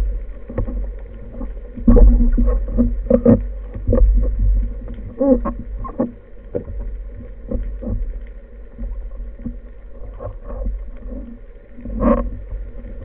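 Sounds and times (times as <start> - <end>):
low underwater rumble: 0.0 - 13.0
muffled underwater knocks and clicks: 0.0 - 13.0.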